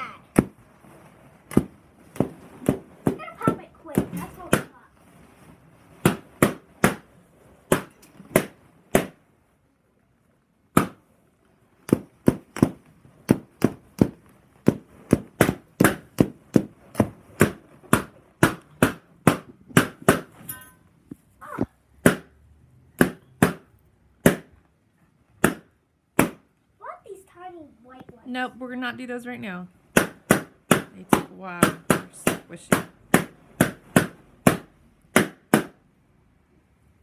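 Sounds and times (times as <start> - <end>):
balloons popping: 0.0 - 9.3, 10.6 - 26.6, 29.8 - 36.0.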